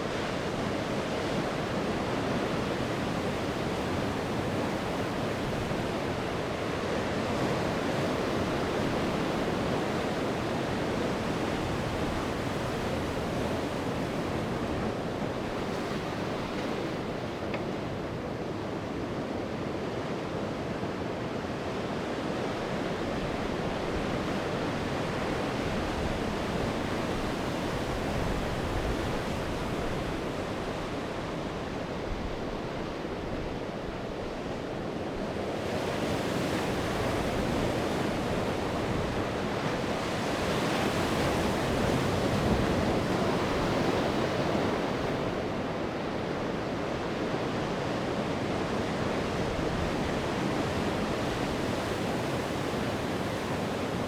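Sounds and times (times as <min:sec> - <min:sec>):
sea waves breaking on shore: 0:00.0 - 0:54.0
wind: 0:00.0 - 0:54.0.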